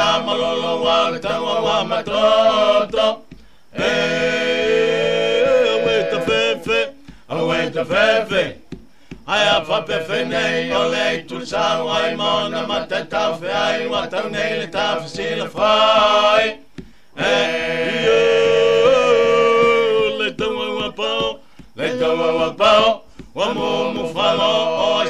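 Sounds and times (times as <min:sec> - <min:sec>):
men singing unaccompanied: 0:00.0 - 0:25.0.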